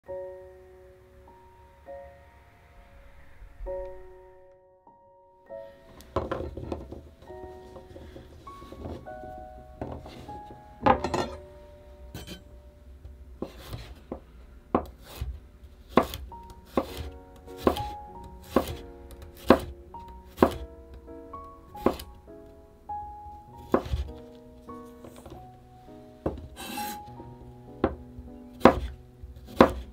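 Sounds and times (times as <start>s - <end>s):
soft background music: 0.0s - 29.9s.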